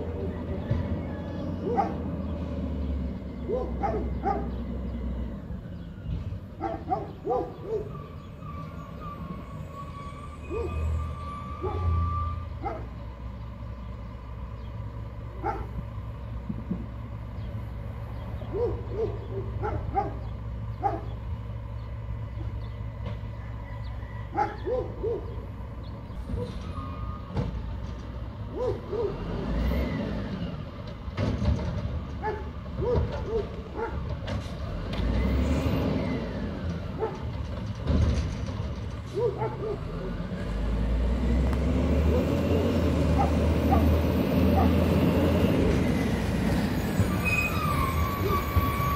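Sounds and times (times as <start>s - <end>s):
diesel engine revving: 0.0s - 23.4s, 24.6s - 48.9s.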